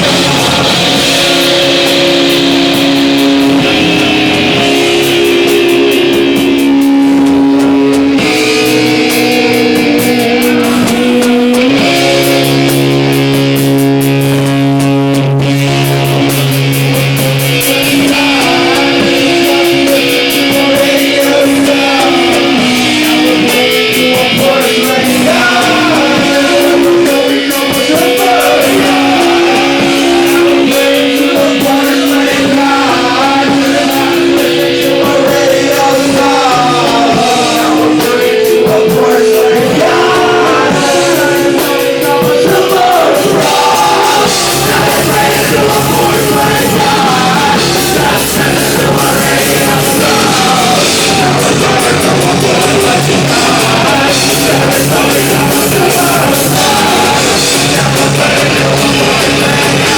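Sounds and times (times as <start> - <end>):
electric guitar: 0.0 - 59.9
live rock band playing: 0.0 - 59.9
person singing: 0.0 - 59.9.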